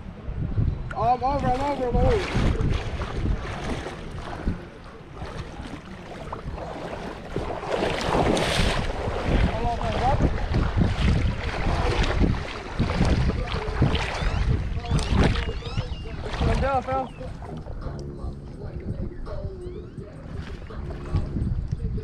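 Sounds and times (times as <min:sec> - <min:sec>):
water lapping at lake edge: 0:00.0 - 0:22.0
wind buffeting microphone: 0:00.0 - 0:22.0.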